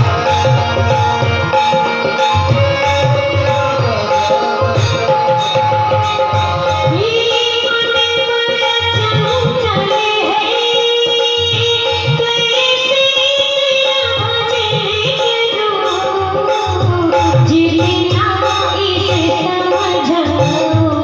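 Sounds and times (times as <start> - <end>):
held melody line: 0.0 - 21.0
tabla beat: 0.0 - 21.0.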